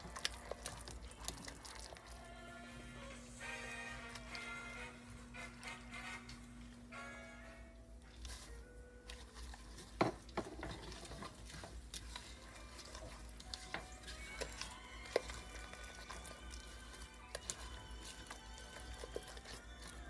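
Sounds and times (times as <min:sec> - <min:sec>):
spatula scraping custard in pot: 0:00.0 - 0:05.0, 0:08.0 - 0:20.0.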